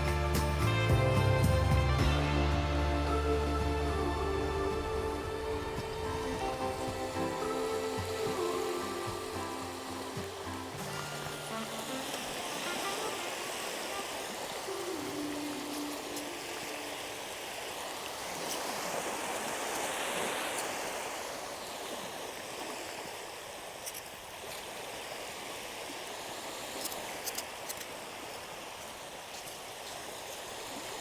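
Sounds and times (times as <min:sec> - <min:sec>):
waves washing onto sand: 0:00.0 - 0:31.0.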